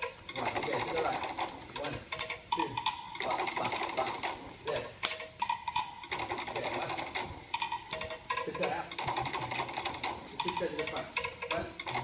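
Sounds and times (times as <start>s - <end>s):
fast drum music: 0.0s - 12.0s.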